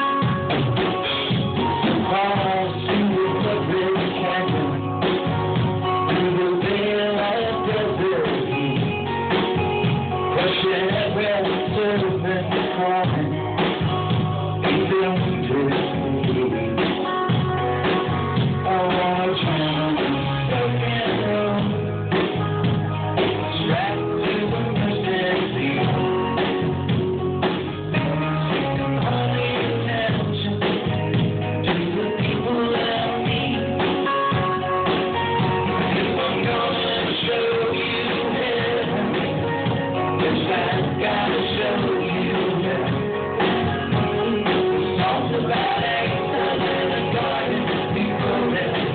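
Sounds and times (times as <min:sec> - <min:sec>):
muffled live rock band: 0:00.0 - 0:48.9.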